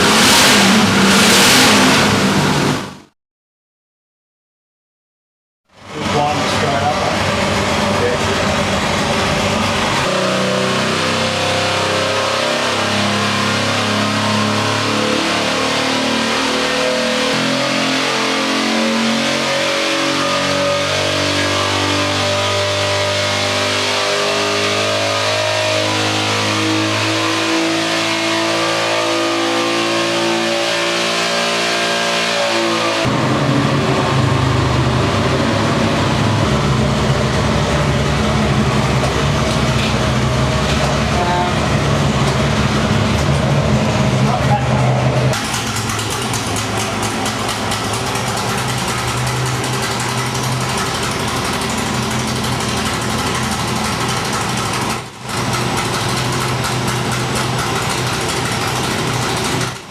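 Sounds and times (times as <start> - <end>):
engine running on a dyno: 0.0 - 3.1, 5.7 - 59.9.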